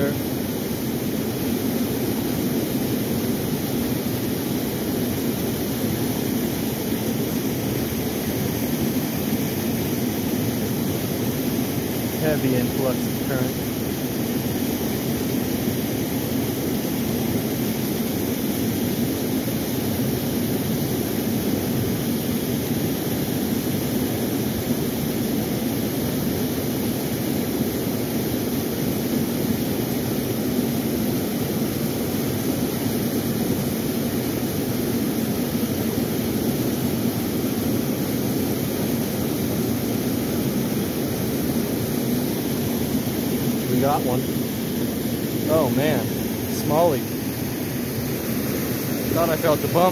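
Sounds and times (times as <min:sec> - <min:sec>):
river water roaring over weir: 0:00.1 - 0:49.9.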